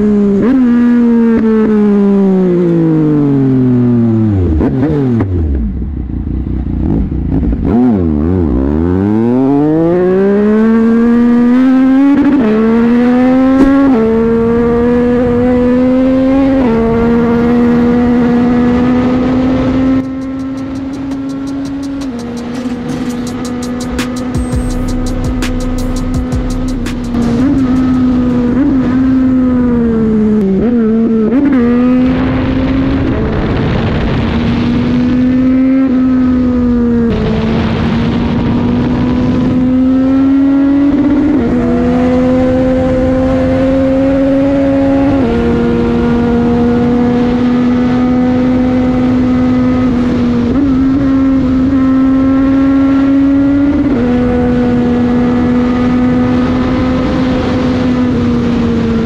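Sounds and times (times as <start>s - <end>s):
motorcycle engine at high revs: 0.0s - 59.0s
rushing wind noise: 4.0s - 59.0s.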